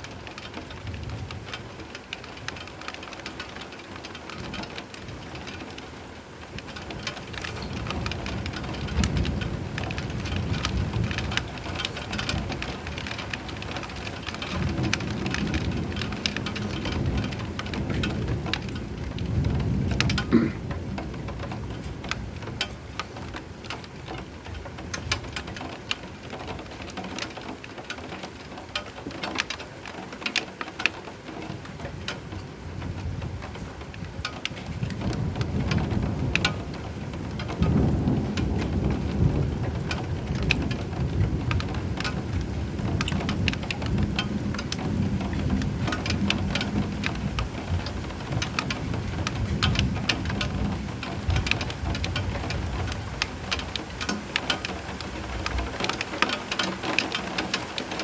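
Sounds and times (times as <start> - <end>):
low rumble of thunder: 0.0 - 29.4, 31.4 - 58.0
rain drops splattering: 0.0 - 58.0.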